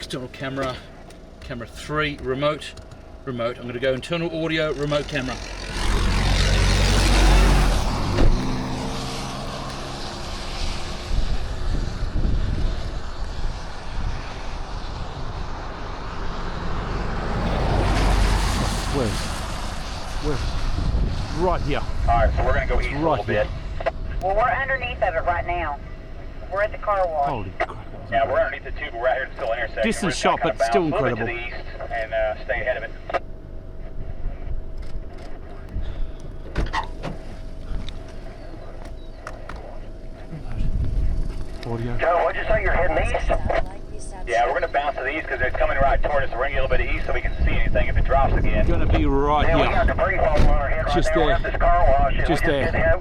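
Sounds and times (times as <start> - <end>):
low roar of wind: 0.0 - 53.0.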